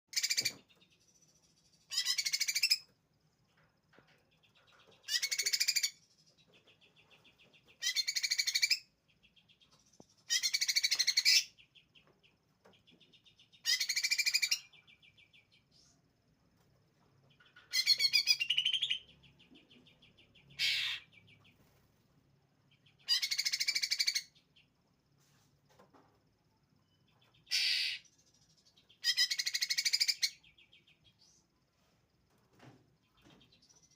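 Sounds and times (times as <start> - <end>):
caged songbird singing: 0.1 - 16.1, 17.0 - 21.8, 22.4 - 24.8, 26.6 - 31.6, 33.0 - 33.9.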